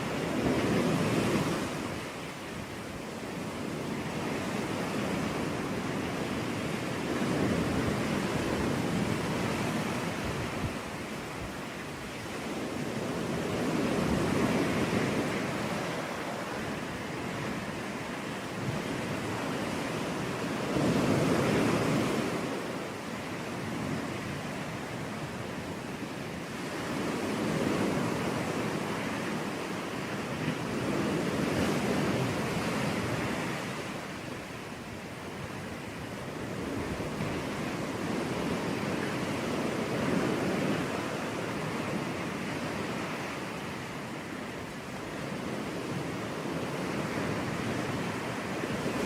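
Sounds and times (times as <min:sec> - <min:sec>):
sea waves breaking on beach: 0:00.0 - 0:49.0.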